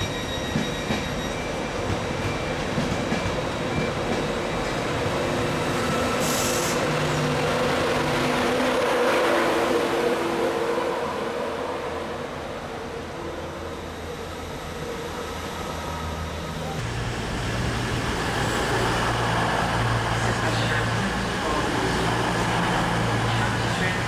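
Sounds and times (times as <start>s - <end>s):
train wheels rumbling on rails: 0.0s - 12.3s, 13.8s - 24.0s
steady train hum: 0.0s - 24.0s.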